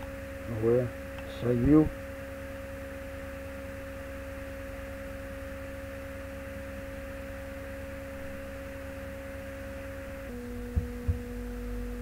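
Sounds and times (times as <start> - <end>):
constant whine: 0.0 - 12.0
electrical hum: 0.0 - 12.0.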